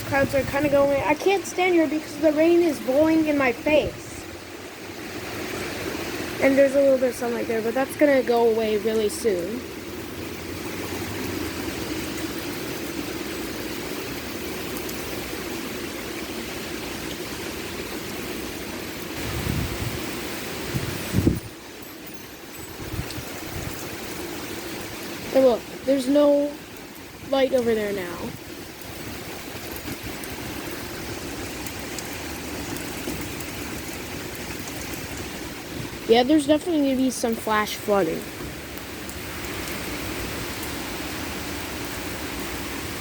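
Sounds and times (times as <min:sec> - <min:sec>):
wind gusting on microphone: 0:00.0 - 0:12.6, 0:19.2 - 0:26.4, 0:27.1 - 0:43.0
heavy rain pouring: 0:00.0 - 0:43.0.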